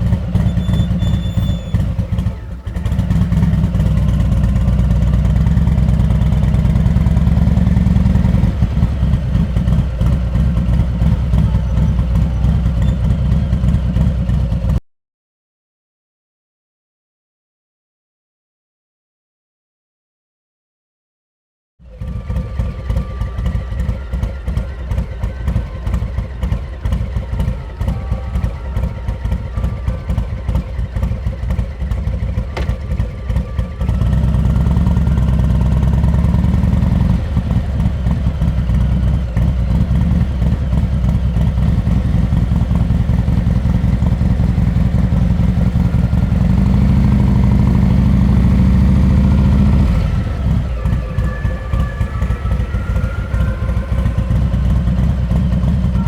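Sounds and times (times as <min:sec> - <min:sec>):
motorcycle engine idling and revving: 0:00.0 - 0:14.8, 0:21.8 - 0:56.0.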